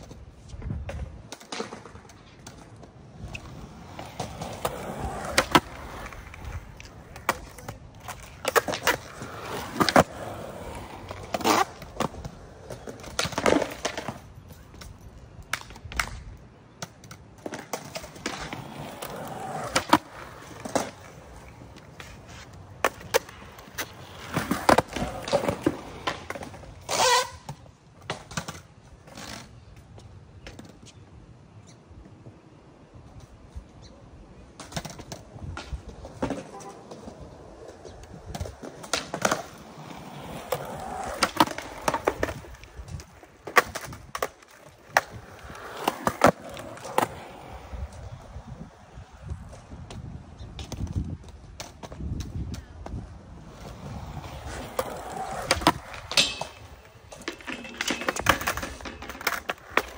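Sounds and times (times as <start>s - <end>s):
skateboard clacks on concrete: 0.0s - 31.0s, 34.5s - 59.9s
skateboard wheels rolling on concrete: 0.0s - 59.9s.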